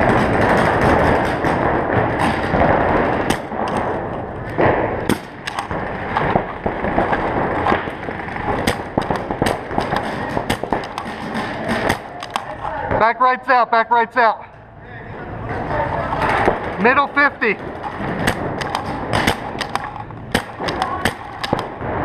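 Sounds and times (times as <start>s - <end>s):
paintball guns firing: 0.0s - 13.2s, 16.1s - 22.0s.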